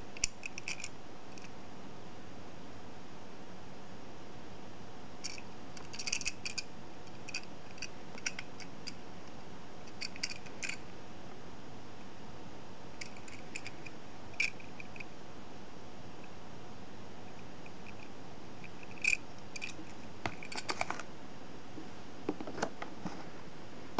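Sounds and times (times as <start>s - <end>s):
steady background hiss: 0.0s - 23.9s.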